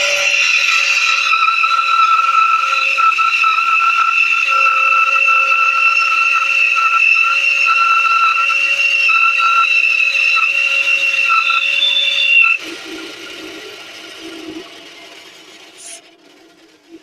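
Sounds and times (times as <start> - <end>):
bandsaw high-pitched whine: 0.0 - 17.0.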